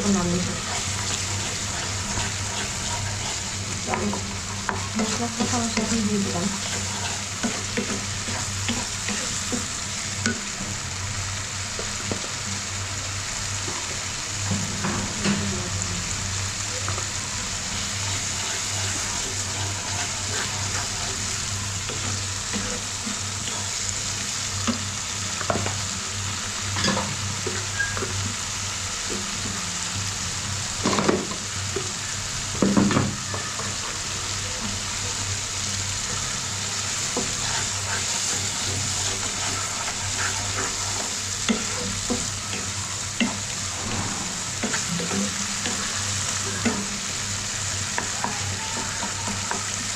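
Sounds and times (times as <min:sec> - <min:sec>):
paste sizzling in hot oil: 0:00.0 - 0:49.9.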